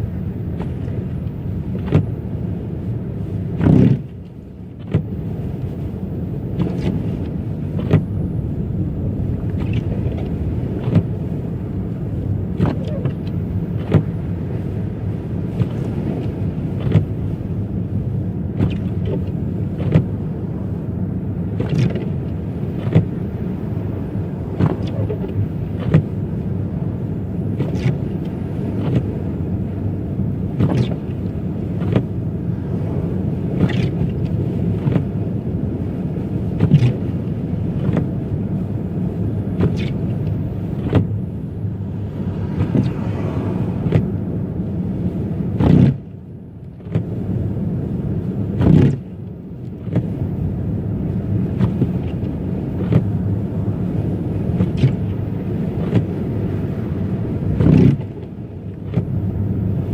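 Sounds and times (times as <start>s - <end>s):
road and tyre rumble: 0.0s - 59.9s
windshield wipers sweeping: 0.4s - 59.9s.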